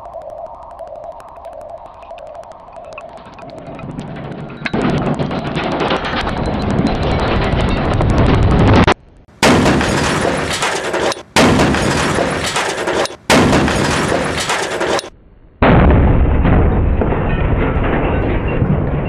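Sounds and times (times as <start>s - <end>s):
steady loud noise: 0.0s - 16.0s.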